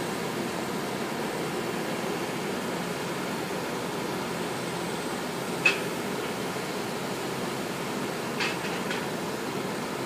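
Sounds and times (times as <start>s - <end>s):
construction machinery drone: 0.0s - 10.0s.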